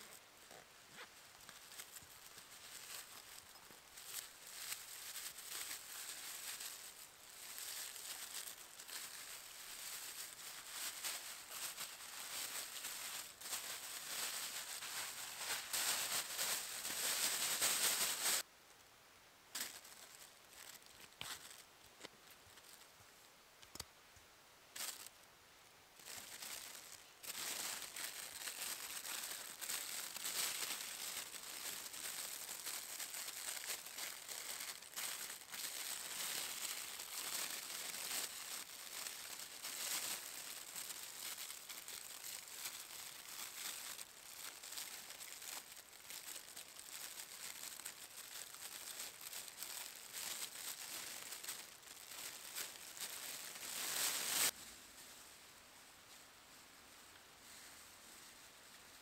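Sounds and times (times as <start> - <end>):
foil crinkling and rustling: 0.0 - 18.5, 19.6 - 21.7, 24.8 - 25.1, 26.0 - 54.6.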